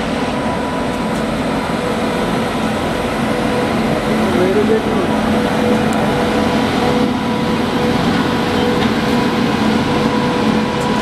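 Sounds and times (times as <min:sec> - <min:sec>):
passenger train running: 0:00.0 - 0:11.0.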